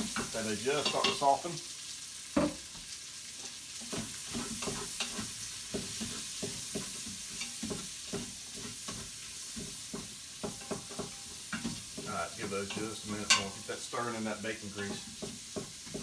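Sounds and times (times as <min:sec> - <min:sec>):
utensil scraping pot: 0:00.0 - 0:01.4, 0:03.4 - 0:16.0
onions and bacon sizzling: 0:00.0 - 0:16.0.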